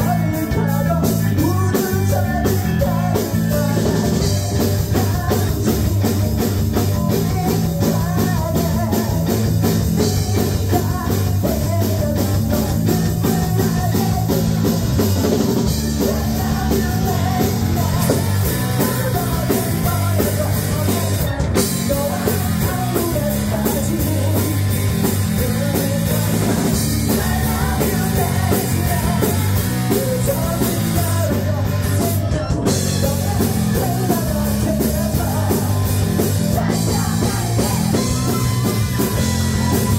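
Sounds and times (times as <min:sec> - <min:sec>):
drum kit: 0:00.0 - 0:39.9
live rock band playing: 0:00.0 - 0:39.9
person singing: 0:00.0 - 0:39.9.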